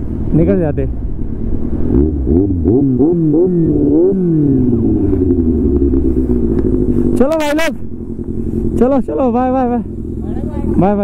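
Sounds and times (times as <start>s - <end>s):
motorcycle engine revving: 0.1s - 11.0s.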